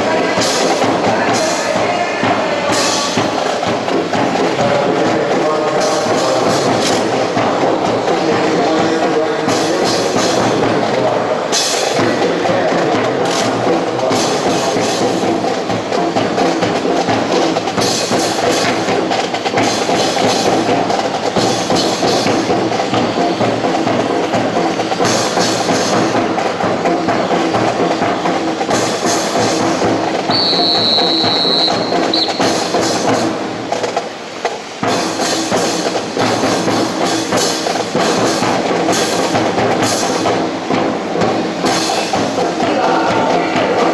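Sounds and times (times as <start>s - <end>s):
percussion music: 0.0s - 43.9s.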